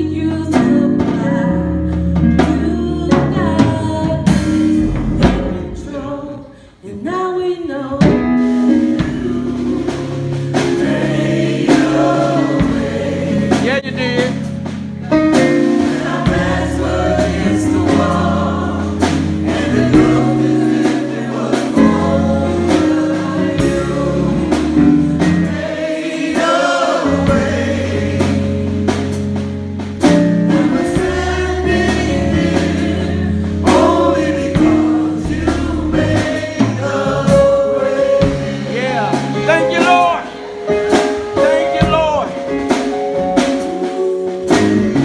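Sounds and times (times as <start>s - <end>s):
gospel choir singing: 0.0s - 45.0s
instrumental backing with steady beat: 8.0s - 45.0s.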